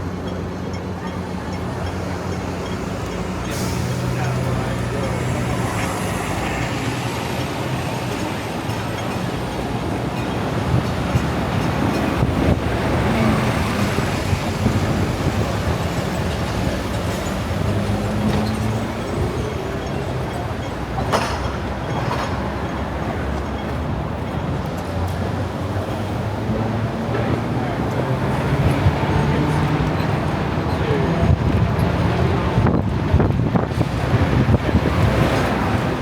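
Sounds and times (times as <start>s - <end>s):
tram running on rails: 0.0s - 36.0s.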